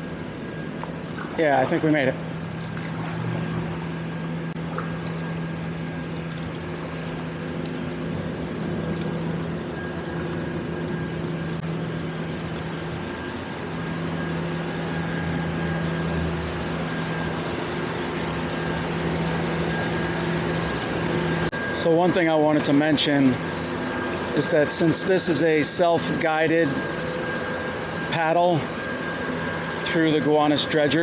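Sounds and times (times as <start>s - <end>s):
high whine: 0.0s - 31.0s
steady mechanical hum: 0.0s - 31.0s.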